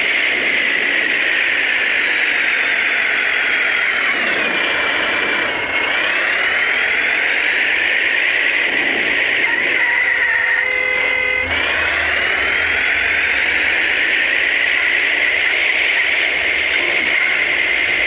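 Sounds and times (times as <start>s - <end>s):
cartoon race car engine whine: 0.0s - 18.0s.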